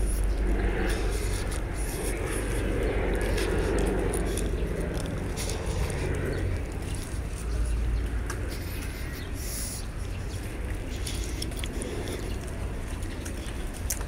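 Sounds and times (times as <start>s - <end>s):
low rumble on microphone: 0.0s - 14.0s.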